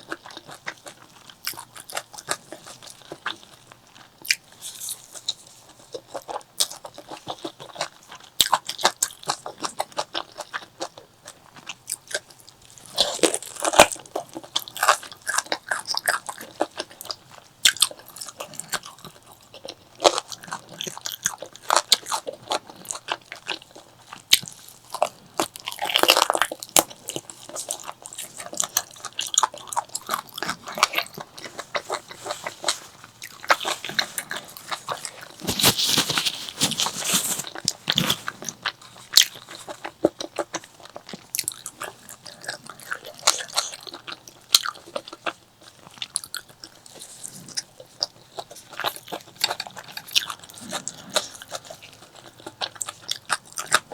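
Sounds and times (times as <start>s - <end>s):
close-miked chewing and biting: 0.0s - 53.9s.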